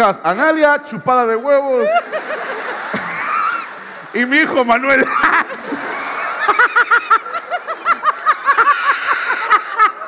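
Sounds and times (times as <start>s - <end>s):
audience laughing: 1.6s - 10.0s.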